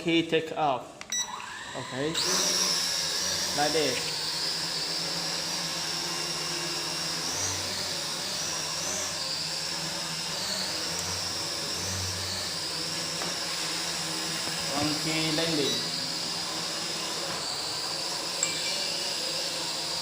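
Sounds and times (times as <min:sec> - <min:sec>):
drone propellers whirring: 0:01.4 - 0:20.0.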